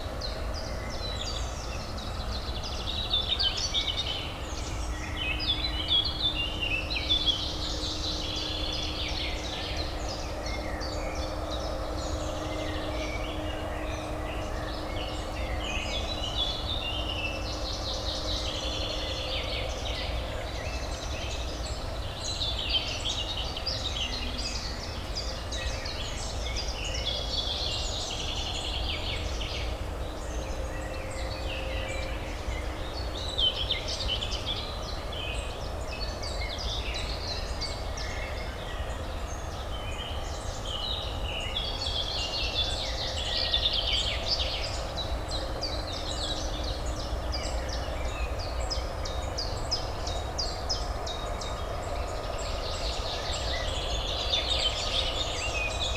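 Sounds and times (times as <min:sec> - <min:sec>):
low urban hum: 0:00.0 - 0:55.9
songbirds chirping: 0:00.0 - 0:55.9.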